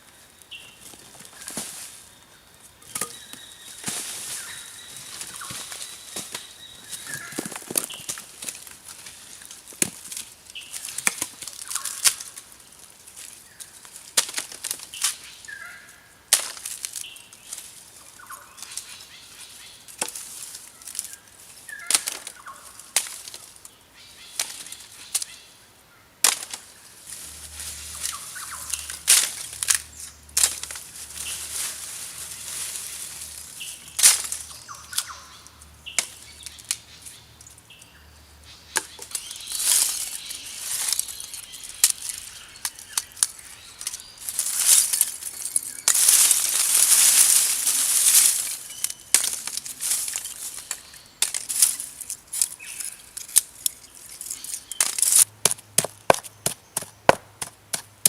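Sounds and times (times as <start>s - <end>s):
rustling and scraping: 0.4s - 15.5s, 16.3s - 25.3s, 26.2s - 35.1s, 38.7s - 58.0s.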